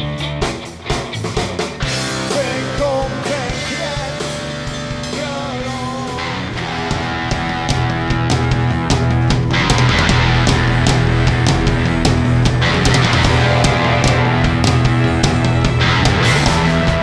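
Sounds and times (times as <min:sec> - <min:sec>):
bending lead guitar line: 0:00.0 - 0:17.0
drums keeping steady beat: 0:00.0 - 0:17.0
electric guitars: 0:00.0 - 0:17.0.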